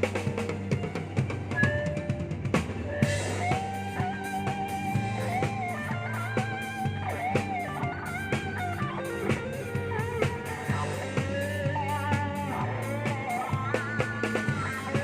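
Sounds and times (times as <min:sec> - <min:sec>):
bass line: 0:00.0 - 0:15.0
electric guitar lead: 0:00.0 - 0:15.0.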